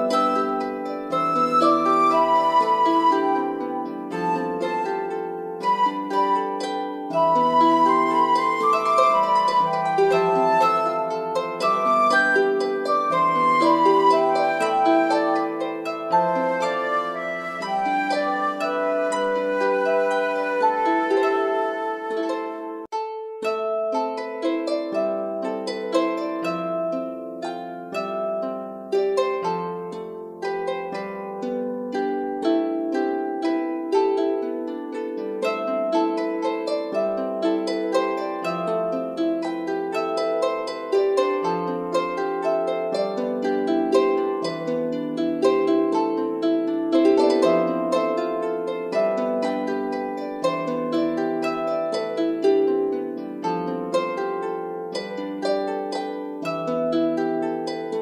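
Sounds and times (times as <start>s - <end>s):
plucked string music: 0.0s - 58.0s.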